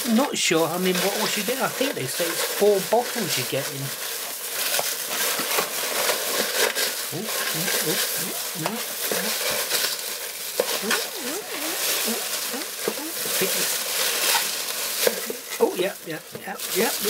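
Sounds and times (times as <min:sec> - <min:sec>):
shredded paper rustling: 0:00.0 - 0:17.0.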